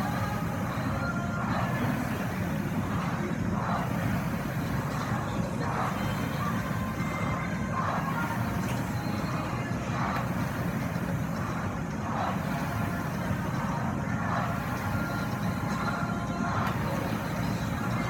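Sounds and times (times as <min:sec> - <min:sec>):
rowing machine fan whir: 0:00.0 - 0:18.0.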